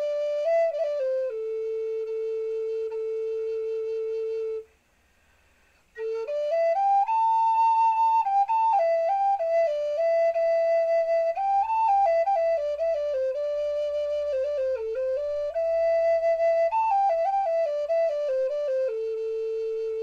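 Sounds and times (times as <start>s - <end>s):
slow solo woodwind melody: 0.0s - 4.8s, 5.9s - 20.0s.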